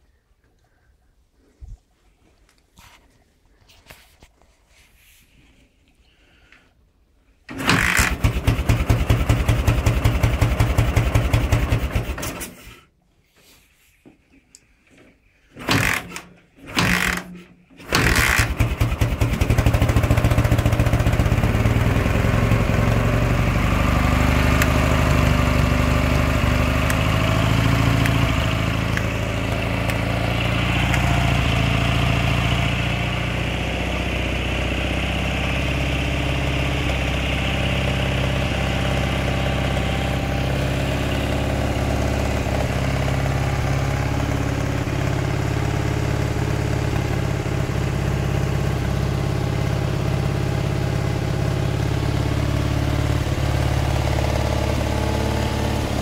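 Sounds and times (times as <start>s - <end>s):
motorcycle engine starting and idling: 7.4s - 12.9s, 14.8s - 56.0s.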